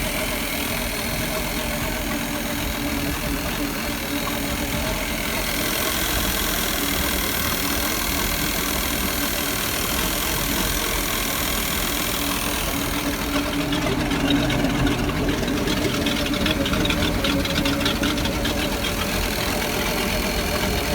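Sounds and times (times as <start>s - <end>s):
boat engine running: 0.0s - 20.9s
engine clicking: 0.0s - 20.9s.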